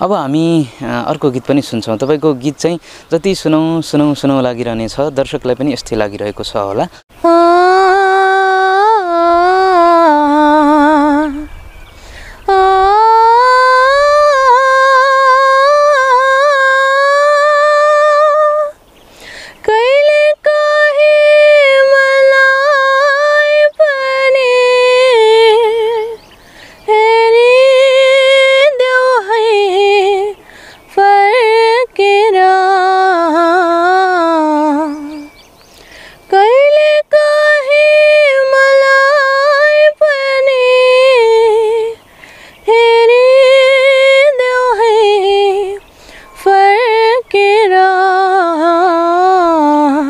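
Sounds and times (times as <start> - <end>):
girl singing unaccompanied: 7.1 - 50.0.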